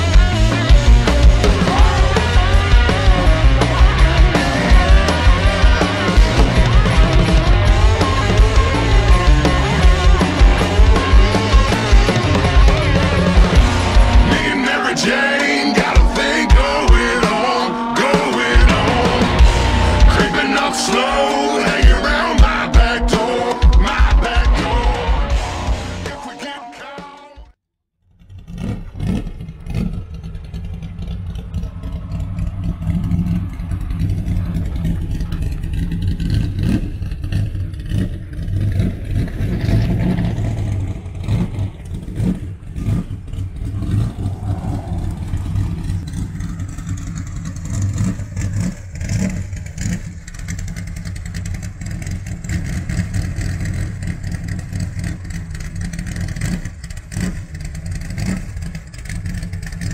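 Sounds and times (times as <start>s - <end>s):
car engine idling and revving: 0.0s - 26.2s, 28.0s - 59.9s.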